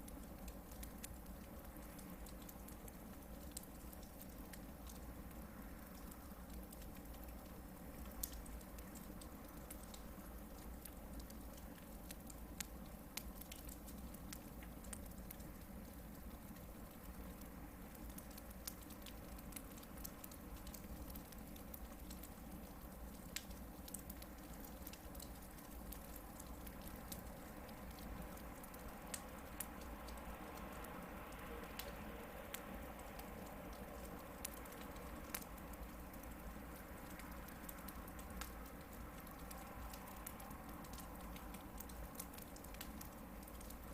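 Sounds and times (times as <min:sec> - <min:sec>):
campfire crackles and pops: 0:00.0 - 0:43.9.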